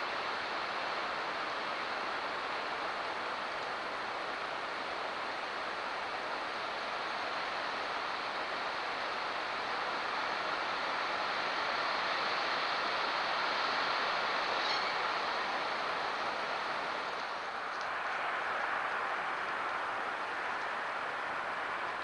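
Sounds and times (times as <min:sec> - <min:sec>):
microphone hiss: 0:00.0 - 0:22.0.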